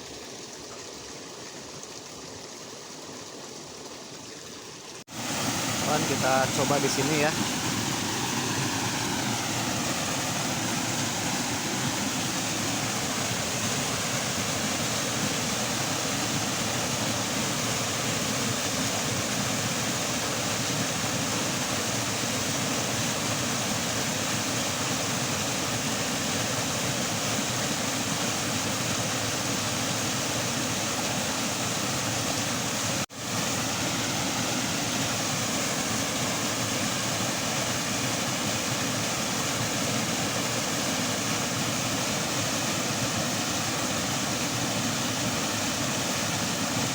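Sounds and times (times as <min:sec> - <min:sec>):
water rushing in ditch: 0:00.0 - 0:46.9.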